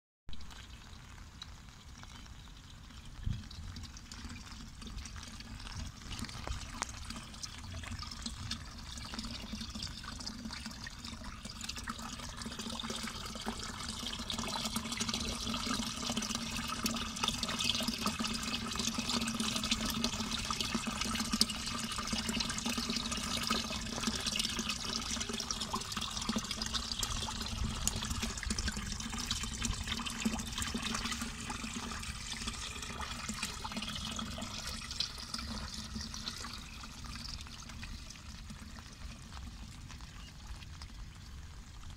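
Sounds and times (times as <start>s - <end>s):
rainwater trickling into drain: 0.3s - 41.9s.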